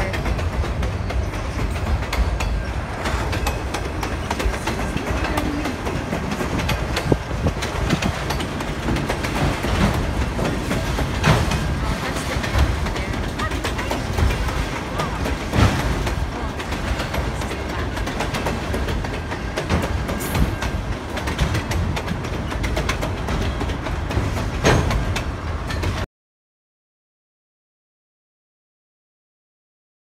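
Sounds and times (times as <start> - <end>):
freight train rumbling past: 0.0 - 26.0
wheels clacking over rail joints: 0.0 - 26.1.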